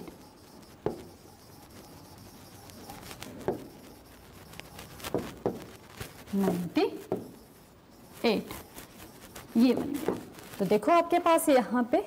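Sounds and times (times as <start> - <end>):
marker scratching on board: 0.0 - 11.2.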